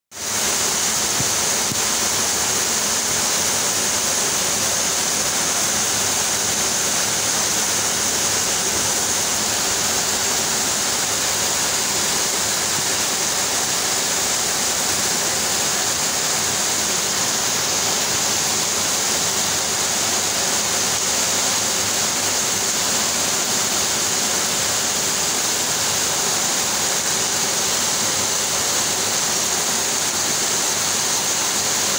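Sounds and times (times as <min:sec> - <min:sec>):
rain on a metal roof: 0:00.1 - 0:31.9.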